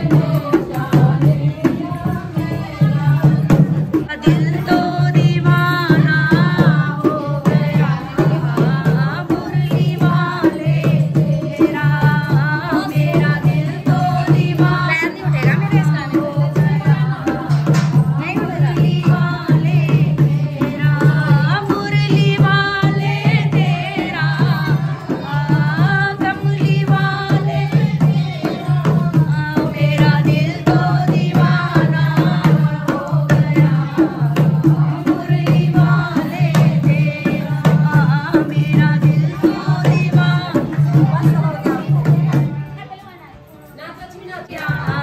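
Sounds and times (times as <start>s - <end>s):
women singing folk song: 0.0s - 42.7s, 43.8s - 45.0s
dholak drum beat: 0.0s - 43.1s, 43.8s - 45.0s.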